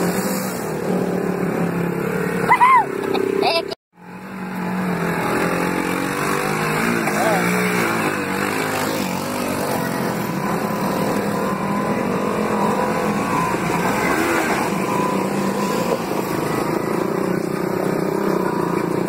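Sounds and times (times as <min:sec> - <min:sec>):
engines revving under load: 0:00.0 - 0:19.0.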